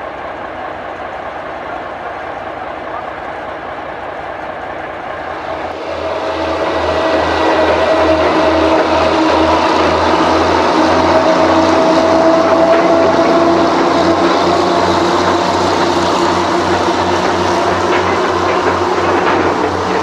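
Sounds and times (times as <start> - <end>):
diesel locomotive engine throb: 0.0 - 20.0.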